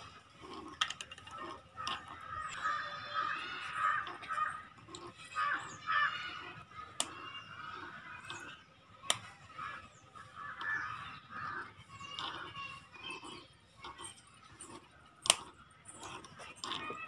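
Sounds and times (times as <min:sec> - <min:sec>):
faint high bird chirp: 0:01.9 - 0:17.0.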